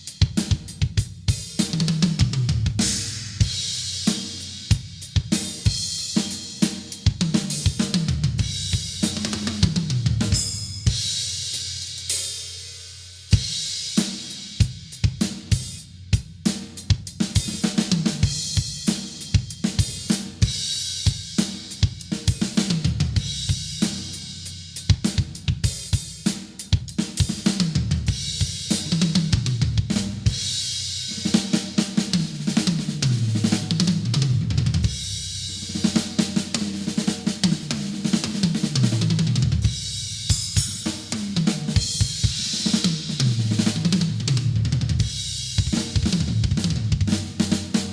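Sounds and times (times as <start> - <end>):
acoustic drum kit playing: 0.0 - 47.9.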